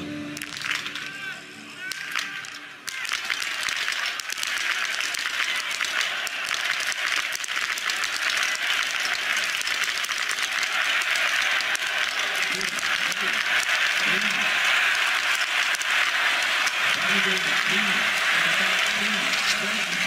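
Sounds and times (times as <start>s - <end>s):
crowd applauding and cheering: 0.0s - 20.0s.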